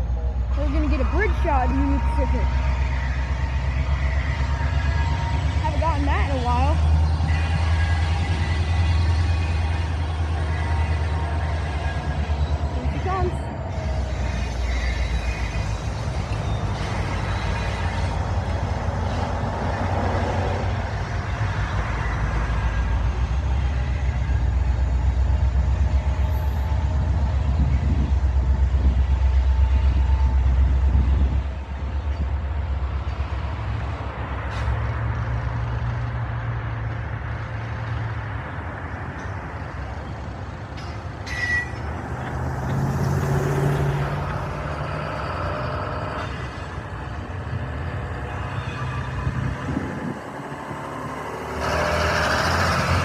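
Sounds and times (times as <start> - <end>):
diesel locomotive rumble: 0.0 - 53.0
freight cars rolling: 0.0 - 53.0.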